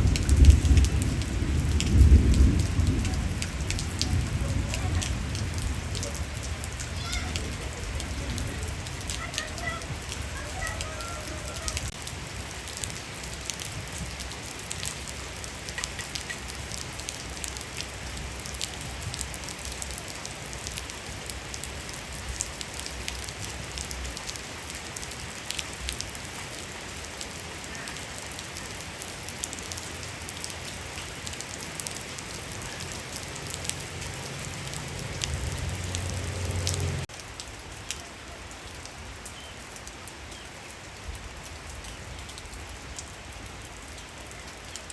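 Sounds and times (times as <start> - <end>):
rain falling: 0.0 - 44.9
raindrops pattering: 0.0 - 44.9.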